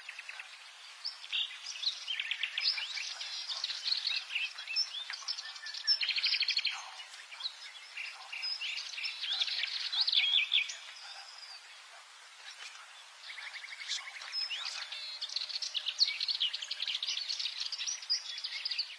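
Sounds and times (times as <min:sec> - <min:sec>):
warbler singing scratchy trills: 0:00.0 - 0:18.9.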